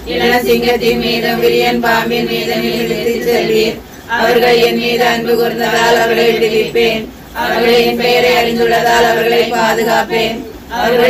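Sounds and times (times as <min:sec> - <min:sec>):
voices singing a hymn: 0:00.0 - 0:11.0.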